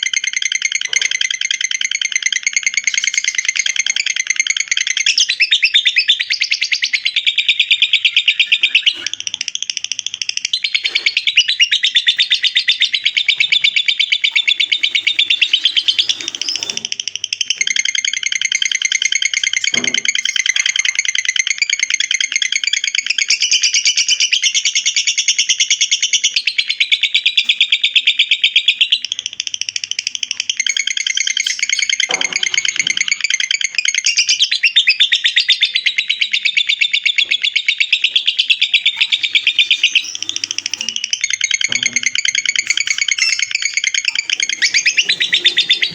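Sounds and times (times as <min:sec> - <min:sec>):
bird chattering trill: 0:00.0 - 0:45.9.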